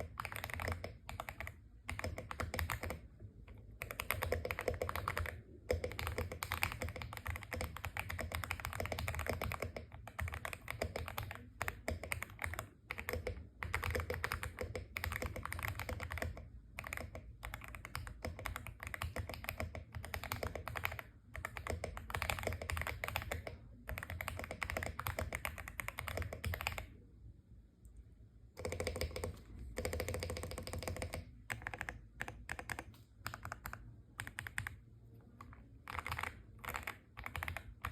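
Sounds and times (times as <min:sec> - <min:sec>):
mechanical keyboard typing: 0:00.0 - 0:26.9, 0:28.6 - 0:34.8, 0:35.4 - 0:37.9.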